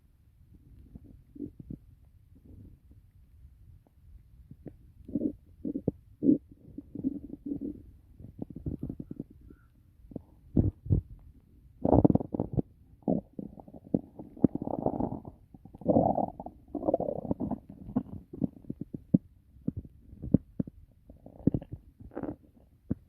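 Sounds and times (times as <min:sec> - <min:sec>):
stomach growling and gurgling: 0:00.5 - 0:03.2, 0:03.8 - 0:23.0.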